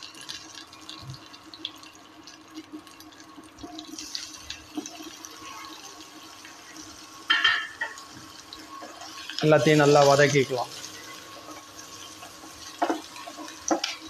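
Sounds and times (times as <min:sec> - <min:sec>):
oil sizzling in frying pan: 0:00.0 - 0:14.0.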